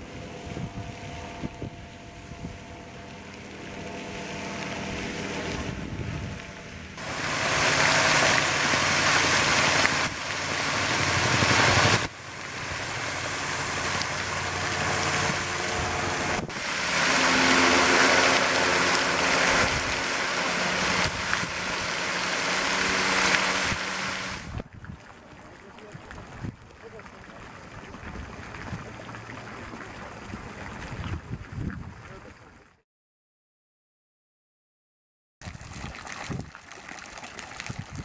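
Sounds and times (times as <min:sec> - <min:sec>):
fountain water splashing: 0:00.0 - 0:32.8, 0:35.4 - 0:38.0.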